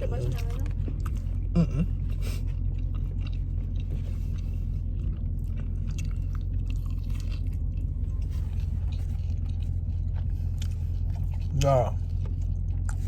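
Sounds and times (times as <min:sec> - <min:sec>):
chewing crispy food: 0:00.0 - 0:13.0
steady low hum: 0:00.0 - 0:13.0.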